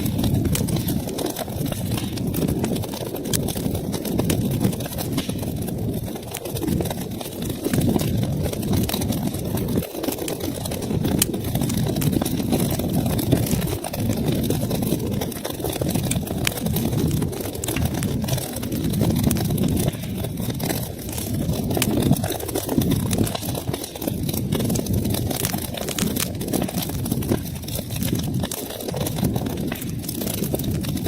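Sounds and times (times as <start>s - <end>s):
burning wood crackling: 0.0s - 31.0s
low rumble of flames: 0.0s - 31.0s.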